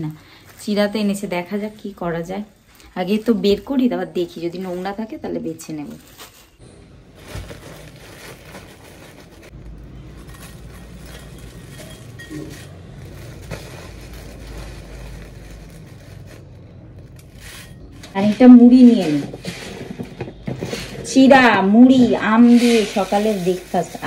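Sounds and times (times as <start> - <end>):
plastic packet rustling: 4.2 - 24.0.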